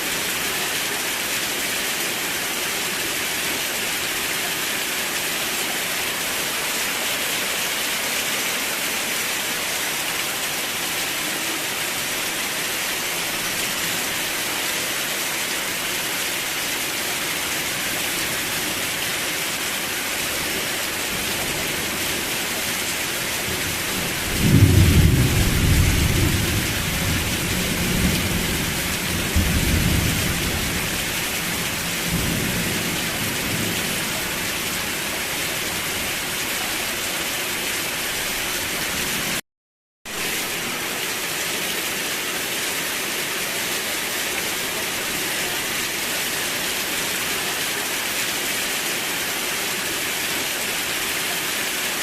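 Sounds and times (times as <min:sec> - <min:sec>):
heavy rain hissing: 0:00.0 - 0:39.4, 0:40.1 - 0:52.0.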